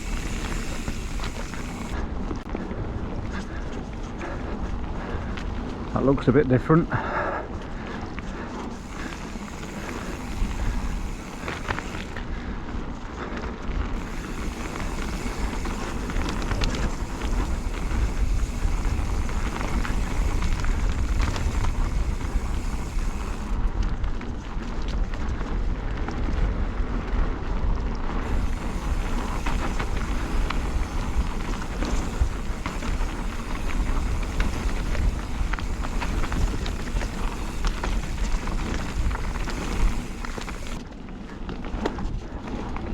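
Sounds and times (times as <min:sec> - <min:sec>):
bike clicks and rattles: 0:00.0 - 0:06.3, 0:06.9 - 0:42.9
bike tyres rolling on dirt: 0:00.0 - 0:42.9.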